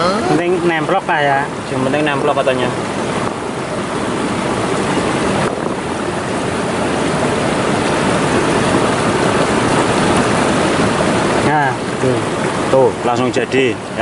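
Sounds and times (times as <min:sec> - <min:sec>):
river flowing: 0:00.0 - 0:14.0.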